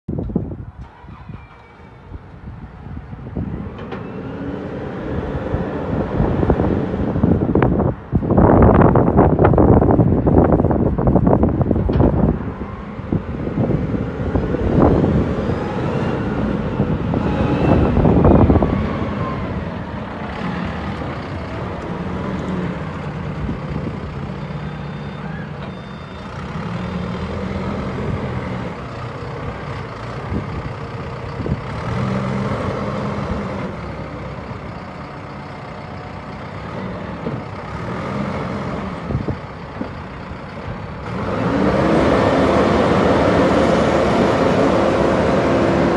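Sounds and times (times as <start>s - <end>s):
wind buffeting microphone: 0.1s - 24.4s, 27.6s - 35.8s, 37.3s - 45.9s
diesel engine revving: 0.3s - 45.9s.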